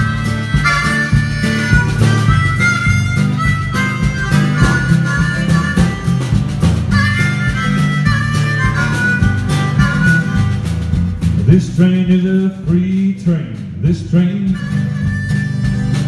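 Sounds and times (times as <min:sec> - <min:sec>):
harmonica solo: 0:00.0 - 0:11.4, 0:14.2 - 0:16.0
drums: 0:00.0 - 0:16.0
strummed acoustic guitars: 0:00.0 - 0:16.0.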